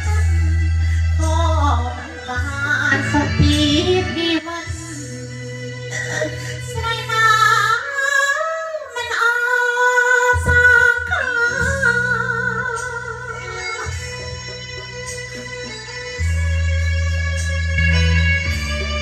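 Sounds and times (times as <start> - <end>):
backing music: 0.0 - 8.0, 10.0 - 19.0.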